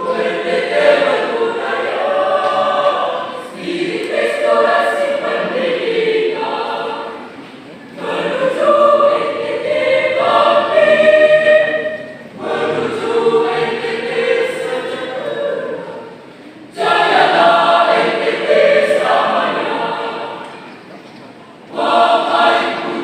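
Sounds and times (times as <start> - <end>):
mixed choir singing: 0.0 - 23.0.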